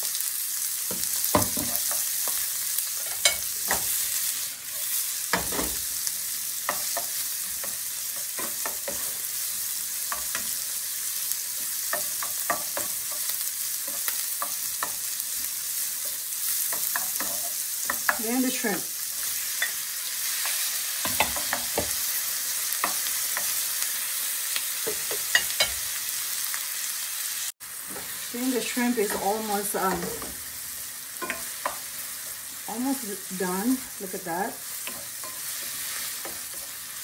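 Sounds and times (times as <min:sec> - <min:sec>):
onion sizzling in frying pan: 0:00.0 - 0:37.0.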